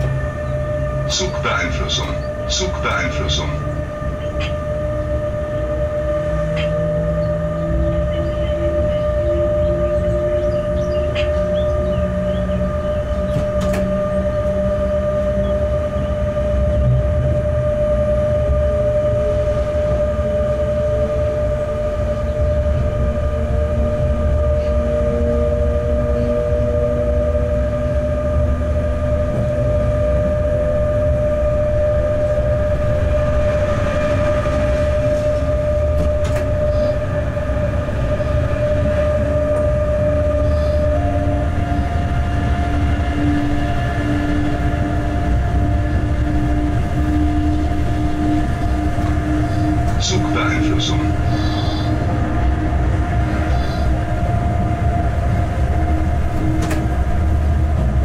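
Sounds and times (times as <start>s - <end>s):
locomotive rumble: 0.0s - 58.0s
machine tones shifting in pitch: 0.0s - 58.0s.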